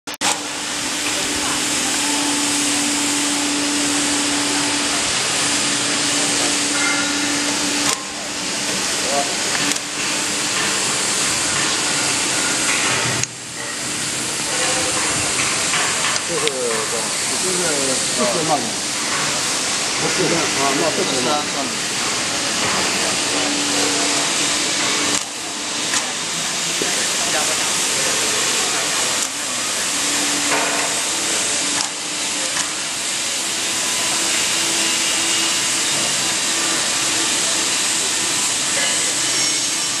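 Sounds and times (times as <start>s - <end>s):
hydraulic power unit hissing: 0.2s - 40.0s.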